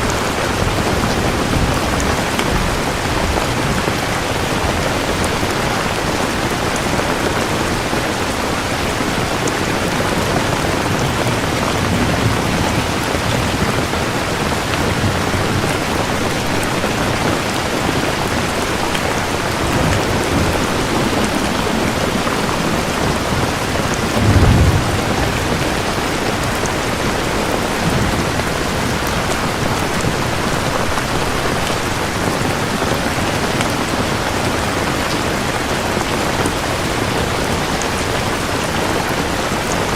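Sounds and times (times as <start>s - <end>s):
thunder rolling: 0.0s - 32.3s
steady rain: 0.0s - 39.9s.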